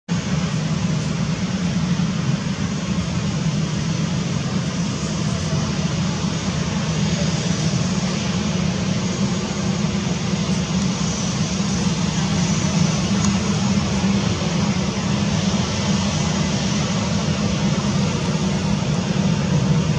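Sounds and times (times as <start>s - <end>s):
jet engines running: 0.1s - 19.9s.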